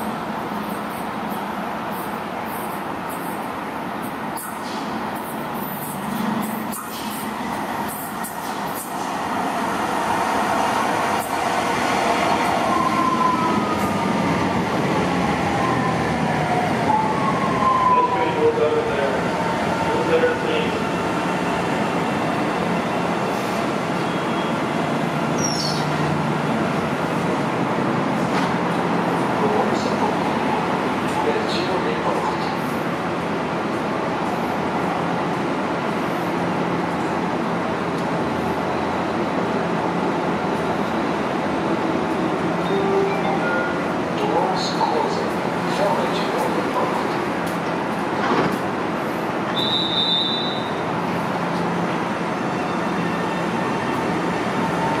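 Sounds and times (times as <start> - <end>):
light rail train running: 0.0 - 55.0.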